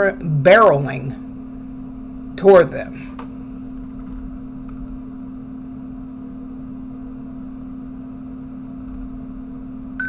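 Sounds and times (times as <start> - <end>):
steady low hum: 0.0 - 10.0
faint rumble: 1.1 - 10.0.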